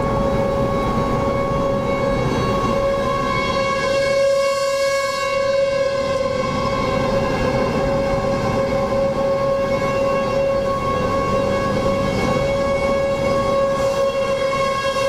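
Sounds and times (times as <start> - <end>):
steady warning siren tone: 0.0 - 15.0.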